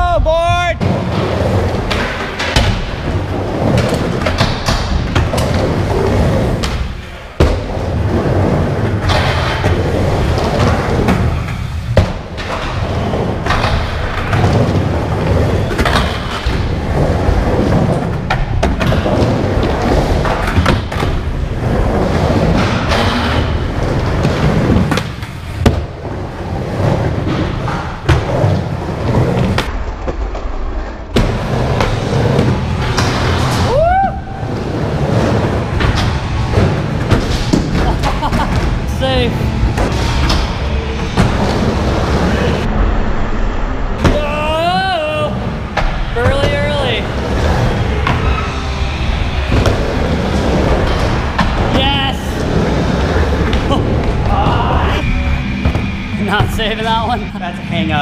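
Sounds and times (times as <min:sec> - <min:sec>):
skateboard wheels rolling: 0:00.8 - 0:42.8, 0:44.0 - 0:56.6.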